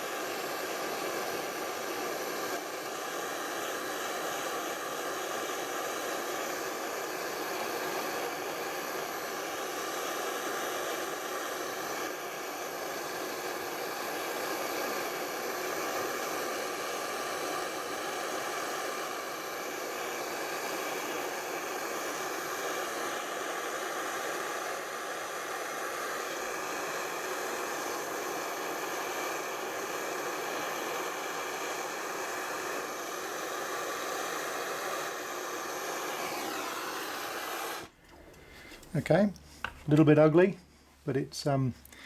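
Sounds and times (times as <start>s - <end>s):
blow lamp flame hissing: 0.0s - 42.0s.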